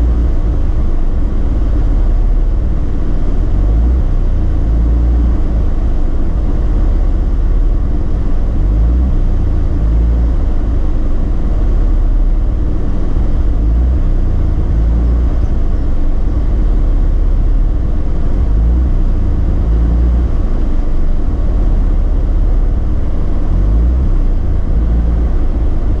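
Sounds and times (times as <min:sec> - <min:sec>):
rotary engine idling unevenly: 0:00.0 - 0:26.0.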